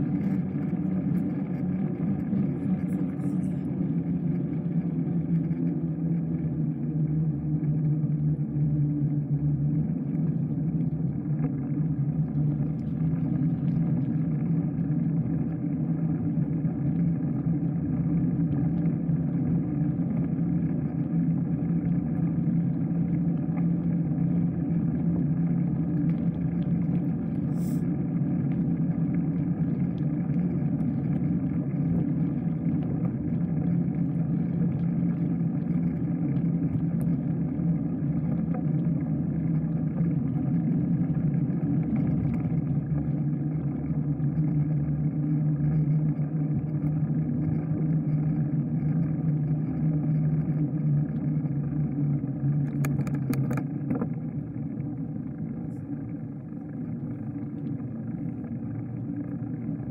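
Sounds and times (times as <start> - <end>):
road noise from bike: 0.0 - 59.9.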